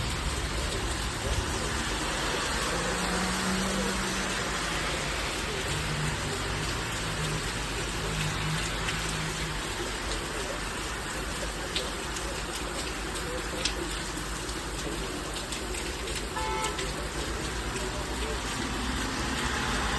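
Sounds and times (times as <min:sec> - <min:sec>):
heavy rain hissing: 0:00.0 - 0:19.9
water drip ticks: 0:00.0 - 0:19.9.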